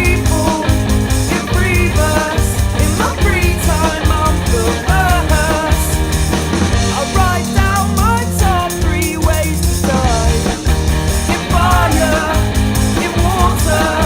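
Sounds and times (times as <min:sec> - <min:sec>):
rock music with singer: 0:00.0 - 0:14.0.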